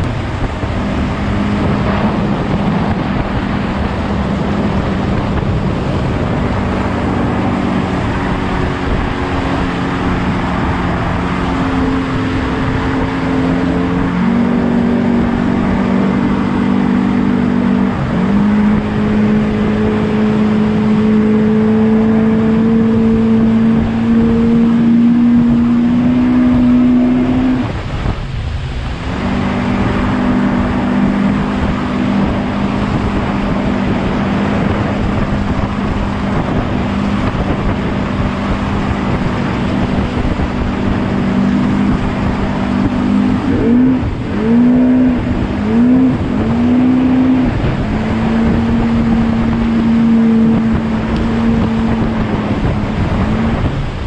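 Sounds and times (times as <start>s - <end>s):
rushing water and spray: 0.0s - 54.0s
speedboat engine at high speed: 0.0s - 54.0s.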